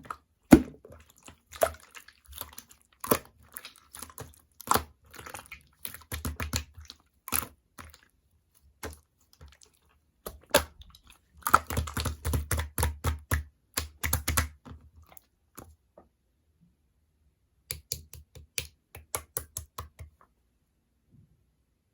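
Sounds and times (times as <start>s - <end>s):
slime squishing with sticky clicks: 0.0s - 8.1s, 8.7s - 15.7s, 17.7s - 20.2s.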